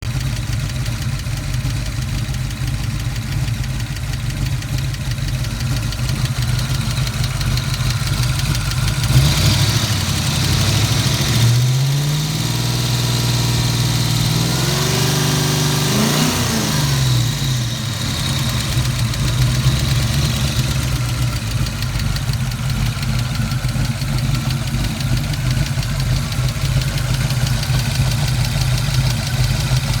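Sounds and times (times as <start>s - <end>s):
car engine idling with tick: 0.0s - 30.0s
car engine revving: 4.7s - 30.0s.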